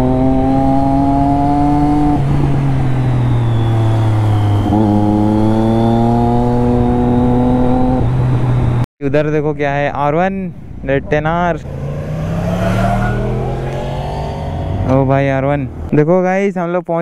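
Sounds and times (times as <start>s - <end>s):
motorcycle engine revving: 0.0s - 8.8s, 11.0s - 15.9s.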